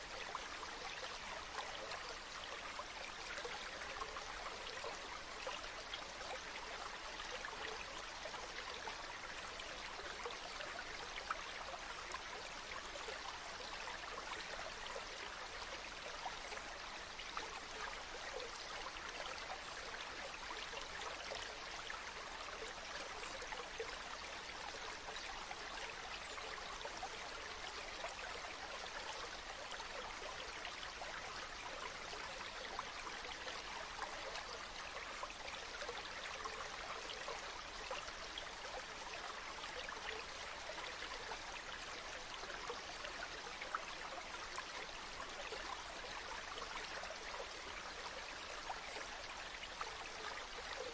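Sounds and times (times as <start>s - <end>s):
stream babbling and trickling: 0.0s - 50.9s.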